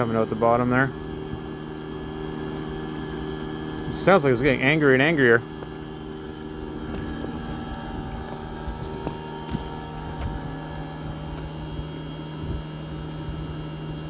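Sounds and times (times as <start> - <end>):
heat pump low hum: 0.0 - 14.0.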